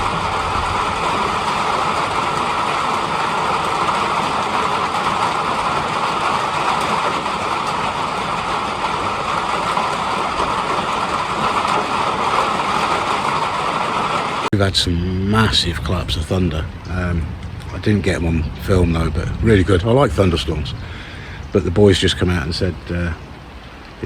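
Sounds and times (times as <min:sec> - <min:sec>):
heavy rain hiss: 0:00.0 - 0:24.0.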